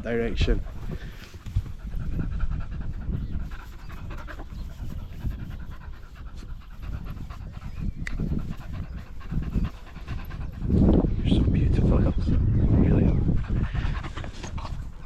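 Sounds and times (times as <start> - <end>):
dogs panting: 0.0 - 15.0.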